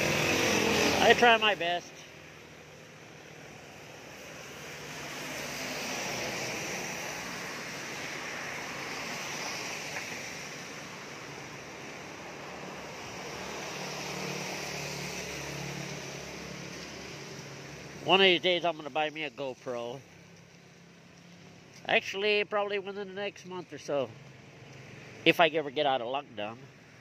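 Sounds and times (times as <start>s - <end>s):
rain hiss on wet street: 0.0s - 22.9s, 24.2s - 25.3s.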